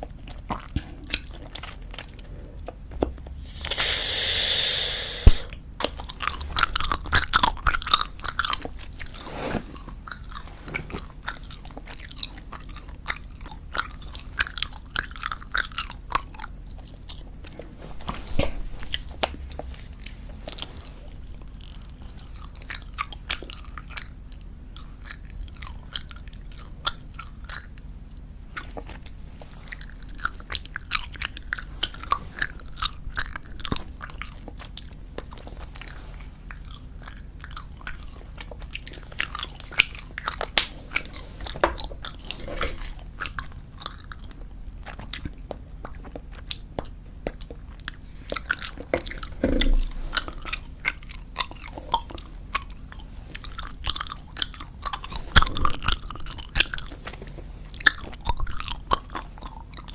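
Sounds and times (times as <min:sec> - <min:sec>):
chewing bubblegum: 0:00.0 - 0:59.9.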